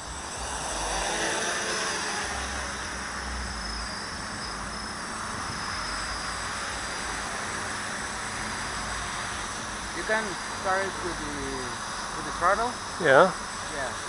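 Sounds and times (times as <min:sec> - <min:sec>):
model aircraft propellers whirring: 0:00.0 - 0:14.0.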